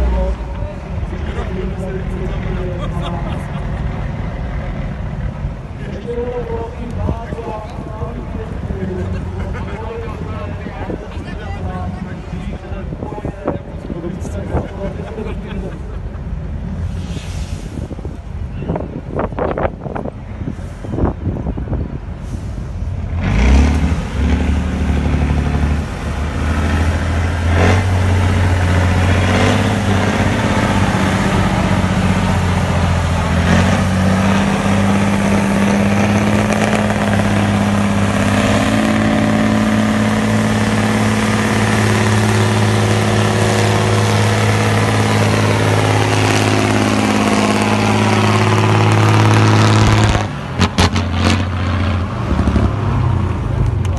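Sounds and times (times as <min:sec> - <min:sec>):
diesel truck engine straining: 0:00.0 - 0:53.9.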